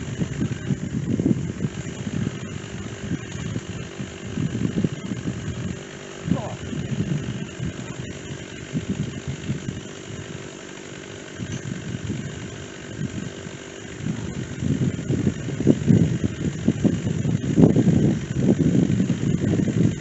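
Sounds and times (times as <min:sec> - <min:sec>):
chainsaw running: 0:00.0 - 0:20.0.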